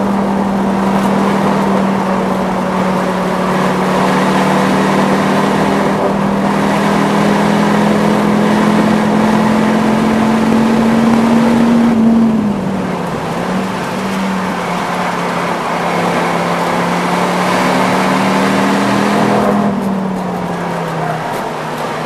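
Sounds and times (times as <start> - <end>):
car engine pulling hard: 0.0 - 22.0.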